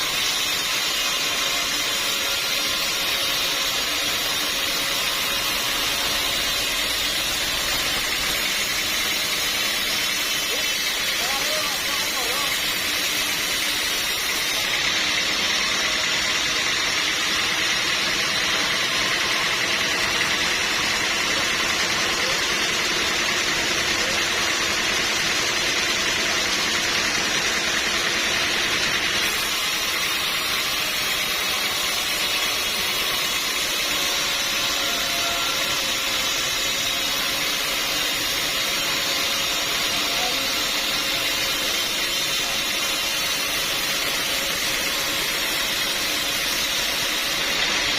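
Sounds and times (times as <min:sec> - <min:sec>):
sawmill saw cutting log: 0:00.0 - 0:47.9.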